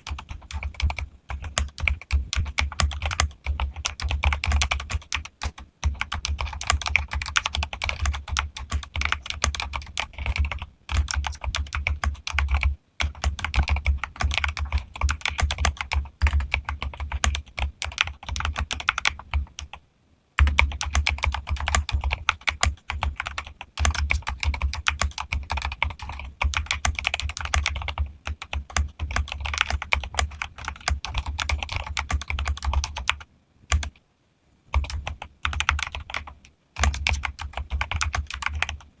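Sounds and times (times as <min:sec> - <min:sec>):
mechanical keyboard typing: 0:00.0 - 0:19.8, 0:20.4 - 0:34.0, 0:34.7 - 0:38.9.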